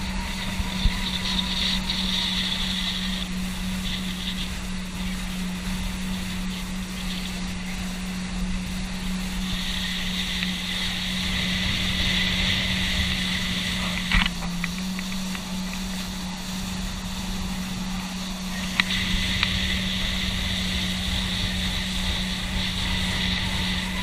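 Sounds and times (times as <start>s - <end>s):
motorboat engine running: 0.0s - 24.0s
rushing water: 0.0s - 24.0s
wind: 0.0s - 24.0s.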